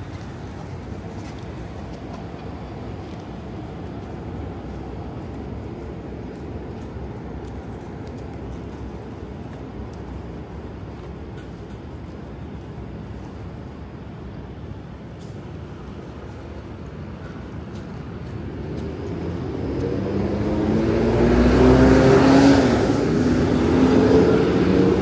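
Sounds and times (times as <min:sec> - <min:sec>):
passing traffic rumble: 0:00.0 - 0:25.0.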